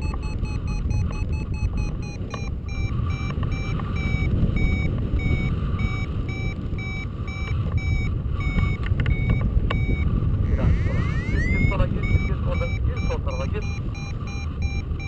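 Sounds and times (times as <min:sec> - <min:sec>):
variometer beeping: 0:00.0 - 0:15.0
wind on microphone: 0:00.0 - 0:15.0.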